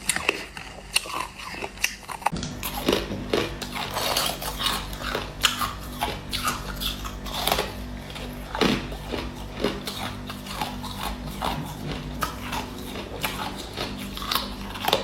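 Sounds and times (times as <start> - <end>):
low steady hum: 0.0 - 15.0
person chewing crushed ice: 0.0 - 15.0.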